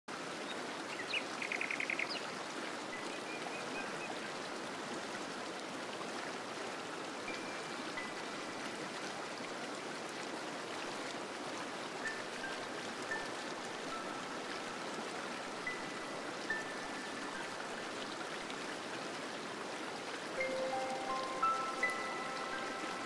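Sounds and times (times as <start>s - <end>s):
stream rushing: 0.1s - 23.0s.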